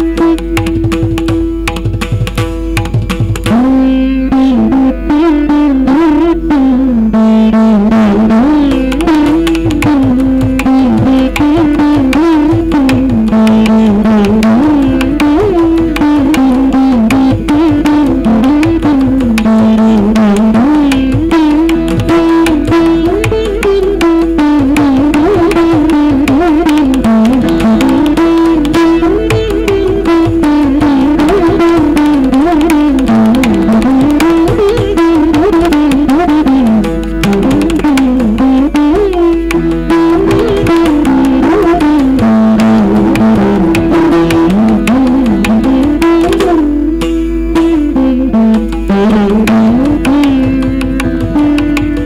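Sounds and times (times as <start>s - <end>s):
mridangam drum strokes: 0.0s - 52.0s
veena playing sliding melody: 0.0s - 52.0s.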